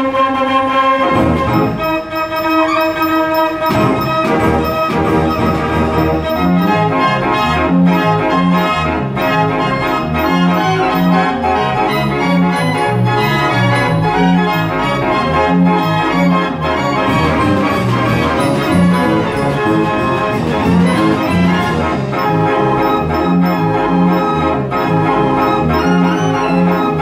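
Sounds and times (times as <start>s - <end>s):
mechanical pipe organ playing: 1.1s - 27.0s.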